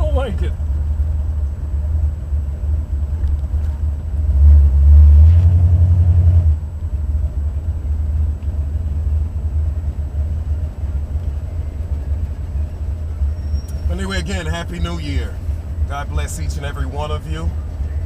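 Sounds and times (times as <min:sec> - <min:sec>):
car engine rumble from inside cabin: 0:00.0 - 0:18.0.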